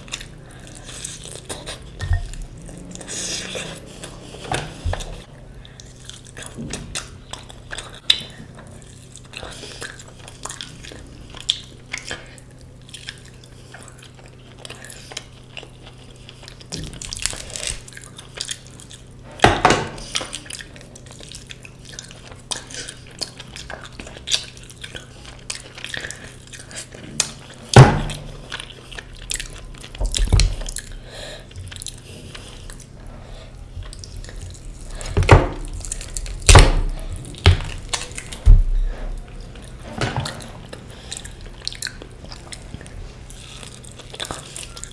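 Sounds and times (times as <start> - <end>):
chewing and mouth sounds: 0.0 - 44.9
faint low hum: 0.0 - 44.9.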